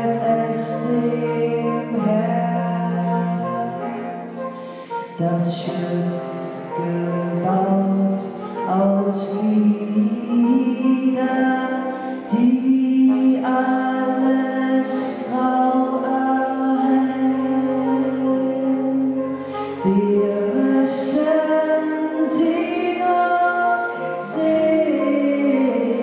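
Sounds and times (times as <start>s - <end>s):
bass clarinet: 0.0s - 26.0s
soprano saxophone: 0.0s - 26.0s
woman singing into a microphone: 0.0s - 26.0s.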